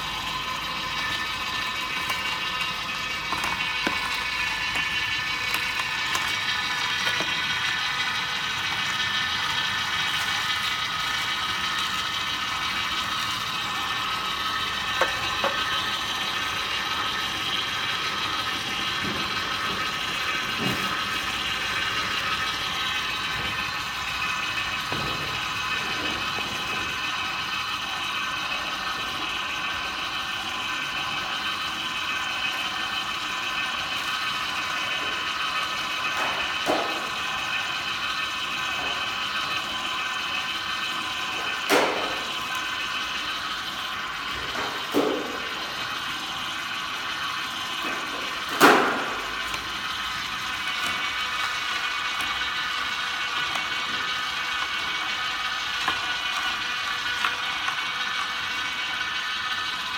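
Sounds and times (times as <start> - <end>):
juicer motor whirring: 0.0 - 59.9.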